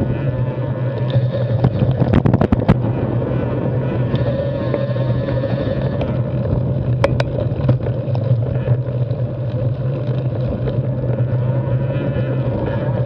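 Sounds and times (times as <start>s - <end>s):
mountain bike tyres and drivetrain: 0.0s - 13.0s.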